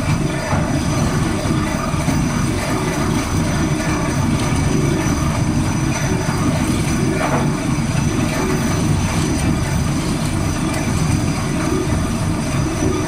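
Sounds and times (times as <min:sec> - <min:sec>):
drilling rig engine running: 0:00.0 - 0:13.0.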